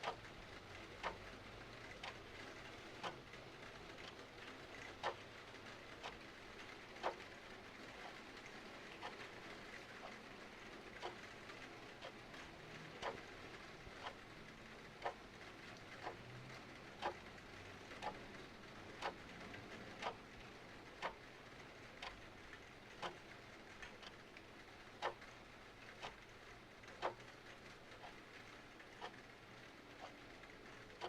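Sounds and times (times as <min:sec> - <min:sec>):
clock ticking: 0:00.0 - 0:31.0
small irregular clicks: 0:00.0 - 0:31.0
soft rain: 0:00.0 - 0:31.0.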